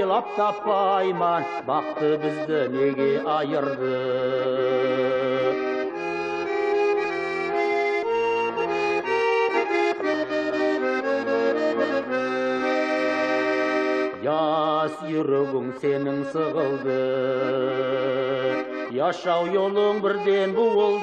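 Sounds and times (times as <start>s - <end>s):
accordion playing folk music: 0.0s - 21.0s.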